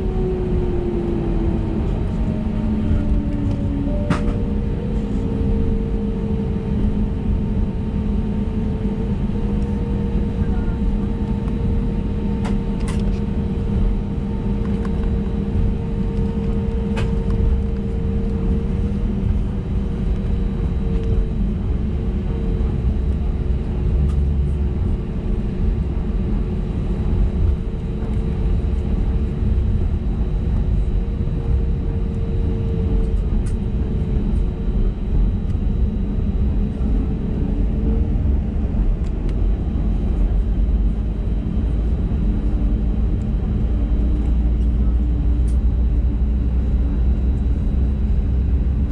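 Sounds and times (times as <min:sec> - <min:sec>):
airplane cabin engine rumble: 0:00.0 - 0:48.9.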